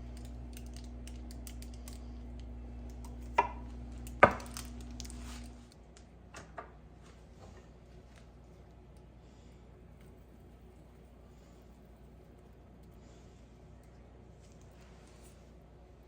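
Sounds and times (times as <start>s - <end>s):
low appliance hum: 0.0s - 16.0s.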